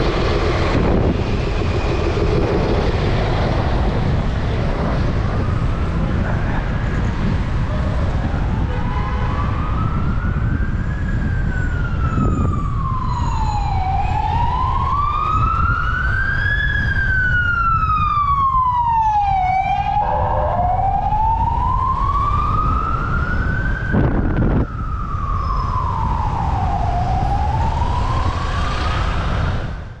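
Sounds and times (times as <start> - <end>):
emergency siren wailing: 0.0 - 30.0.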